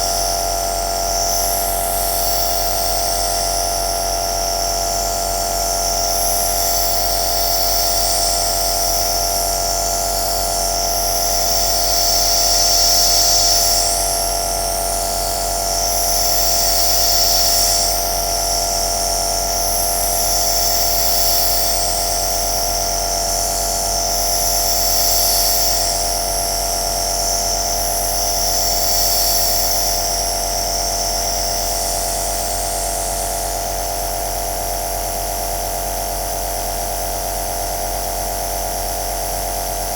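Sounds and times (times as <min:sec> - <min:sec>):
nebulizer motor hum: 0:00.0 - 0:32.9.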